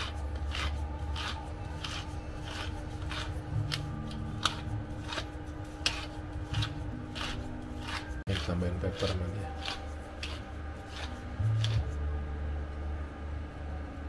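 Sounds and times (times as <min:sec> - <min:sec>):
spice mill grinding: 0:00.0 - 0:11.8.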